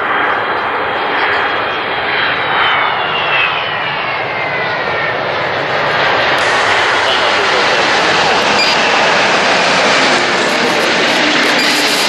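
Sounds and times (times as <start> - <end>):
high engine whine: 0.0 - 12.0
jet engines roaring: 0.0 - 12.0.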